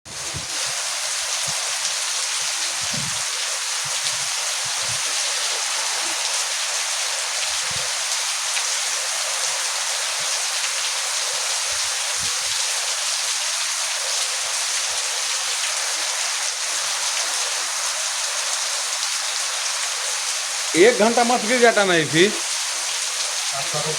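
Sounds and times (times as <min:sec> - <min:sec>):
heavy rain falling: 0:00.1 - 0:23.9.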